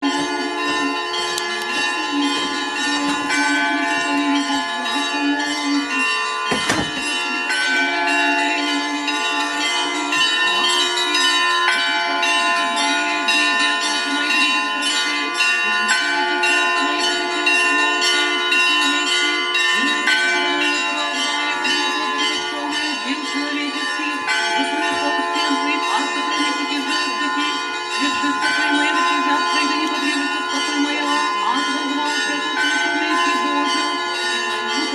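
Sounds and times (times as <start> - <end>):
church bells ringing a peal: 0.0 - 34.9.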